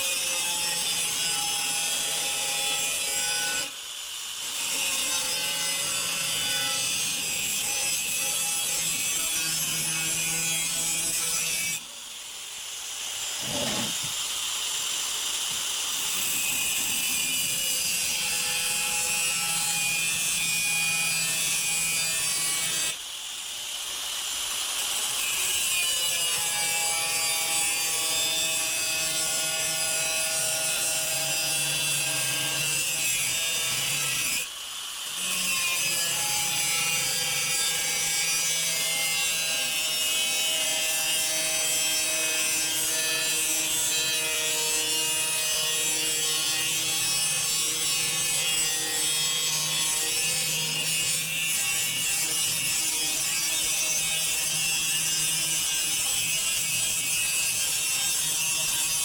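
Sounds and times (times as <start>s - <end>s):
angle grinder cutting steel: 0.0s - 59.0s.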